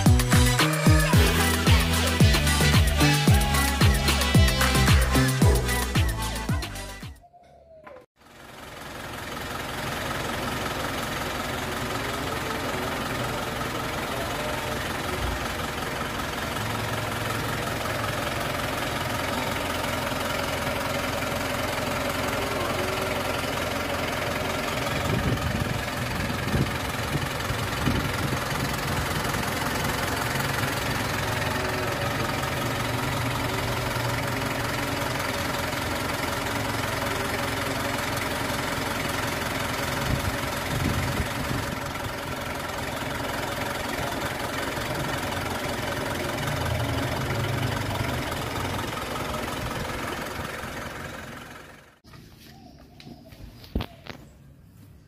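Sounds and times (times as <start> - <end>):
diesel engine idling: 0.0 - 55.0
engine knocks: 7.7 - 52.3.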